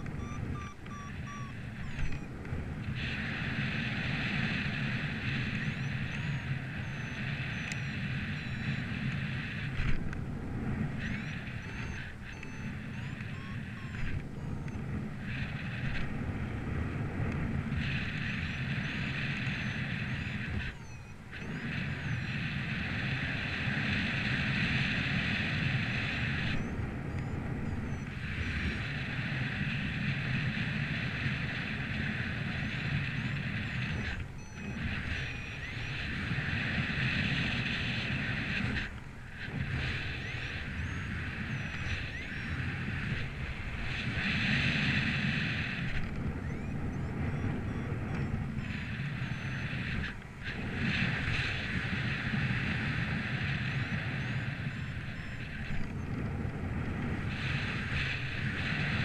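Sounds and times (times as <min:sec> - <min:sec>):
gusty wind on microphone: 0:00.0 - 0:59.0.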